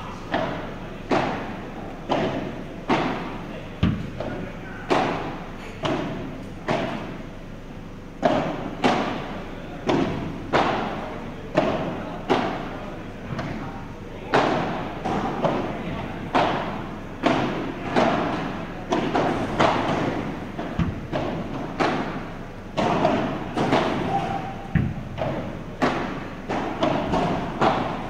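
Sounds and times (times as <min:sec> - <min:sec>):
balls struck with rackets: 0:00.2 - 0:07.4, 0:08.2 - 0:28.0.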